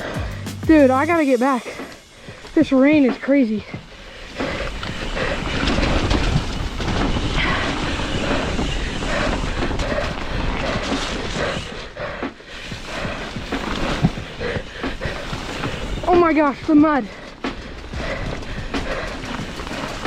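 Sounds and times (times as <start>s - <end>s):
low rumble of bike rolling: 2.3s - 20.0s
bike knocks and rattles: 2.8s - 20.0s.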